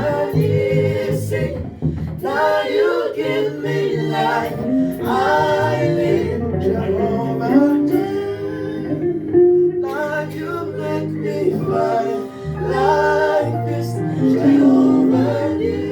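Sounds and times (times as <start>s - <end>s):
instrumental backing with bass: 0.0s - 15.9s
voices singing gospel song: 0.0s - 15.9s.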